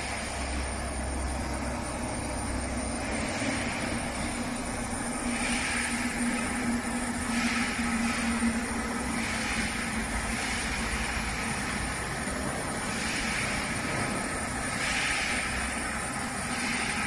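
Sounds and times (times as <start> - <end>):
engraving machine humming: 0.0 - 17.0
machine hiss: 0.0 - 17.0.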